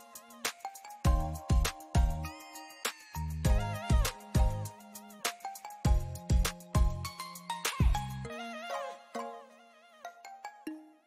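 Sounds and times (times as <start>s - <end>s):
slow instrumental melody: 0.0s - 11.0s.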